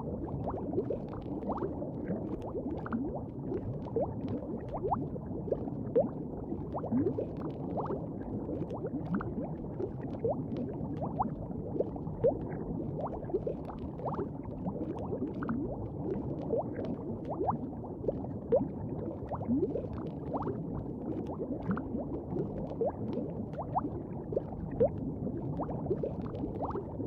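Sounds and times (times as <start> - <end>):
liquid bubbling and gurgling: 0.0 - 27.0
bubbles popping: 0.1 - 27.0.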